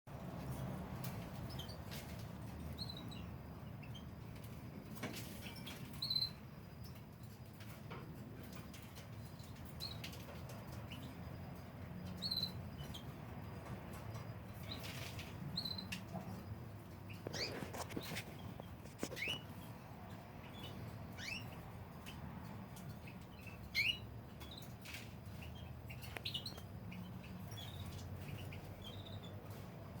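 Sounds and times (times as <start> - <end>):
canaries chirping: 0.1 - 30.0.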